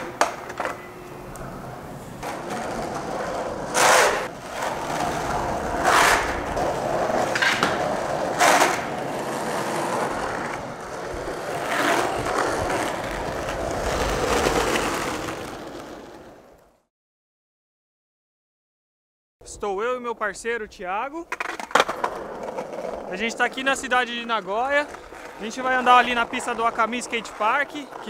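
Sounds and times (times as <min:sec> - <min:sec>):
skateboard wheels rolling on concrete: 0:00.0 - 0:16.9, 0:19.8 - 0:28.0.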